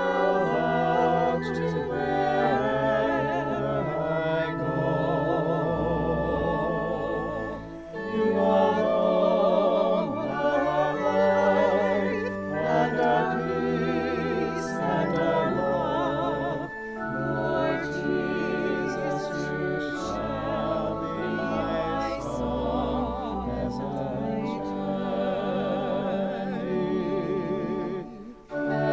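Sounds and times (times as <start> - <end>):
church singing with vibrato: 0.0 - 28.9
sustained low accompanying notes: 0.0 - 28.9.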